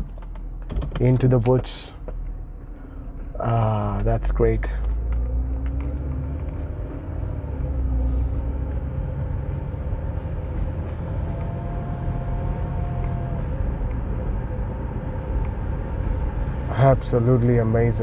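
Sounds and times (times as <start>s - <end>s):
car engine and tyres rumbling: 0.0s - 18.0s
faint whining tones: 0.0s - 18.0s.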